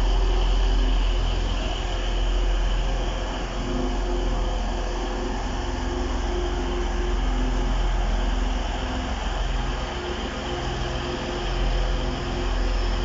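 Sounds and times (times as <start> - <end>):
diesel train engine hum: 0.0 - 13.0.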